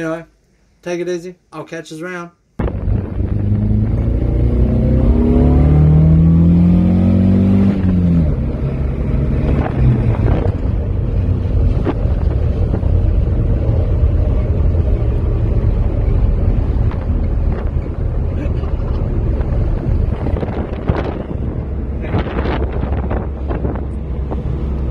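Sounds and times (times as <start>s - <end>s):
car engine accelerating: 2.6s - 24.9s
road and wind noise: 2.6s - 24.9s.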